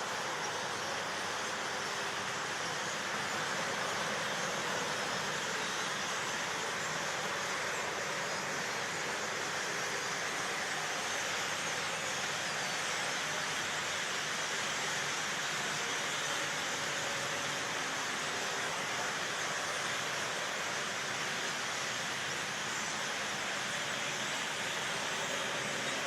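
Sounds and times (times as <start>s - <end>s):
flock of birds rushing hiss: 0.0s - 26.0s.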